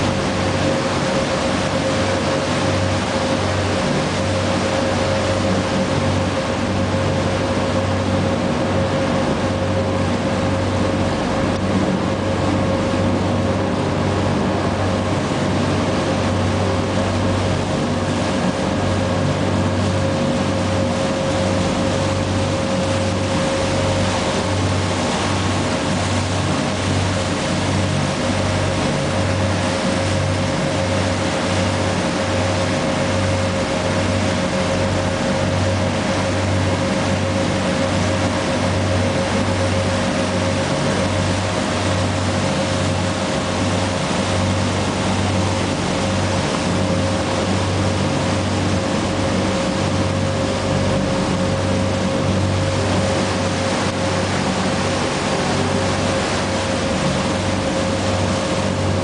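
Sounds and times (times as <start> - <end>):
boat engine humming: 0.0 - 59.0
engine whine: 0.0 - 59.0
rushing churn of boat wake: 0.0 - 59.0.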